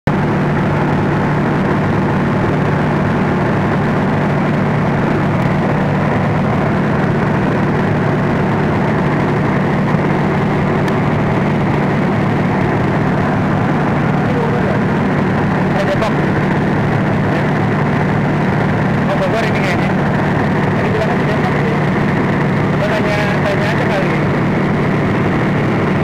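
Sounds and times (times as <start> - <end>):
broad rushing noise: 0.1 - 26.0
train idling hum: 0.1 - 26.0.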